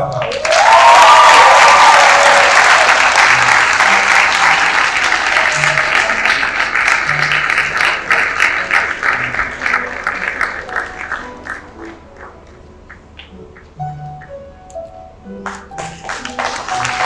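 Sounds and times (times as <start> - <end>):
audience applauding: 0.0 - 13.8, 15.4 - 17.0.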